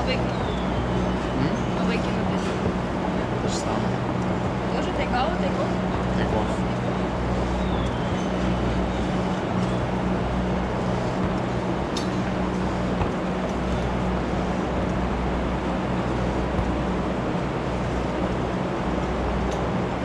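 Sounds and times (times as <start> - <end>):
engine humming steadily: 0.0 - 20.0.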